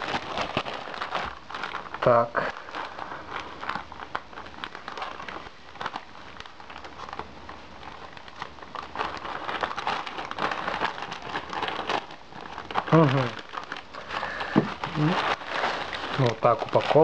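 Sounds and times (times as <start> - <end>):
plastic mailer crinkling: 0.0 - 17.0.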